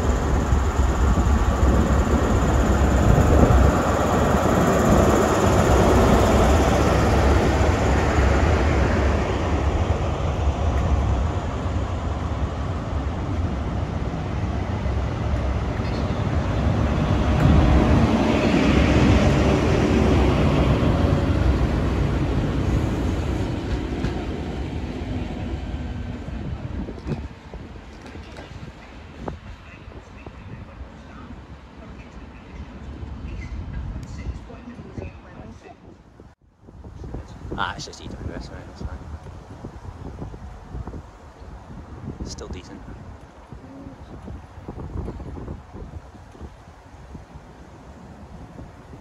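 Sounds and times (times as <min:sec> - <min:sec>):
diesel train passing: 0:00.0 - 0:34.8, 0:36.7 - 0:49.0.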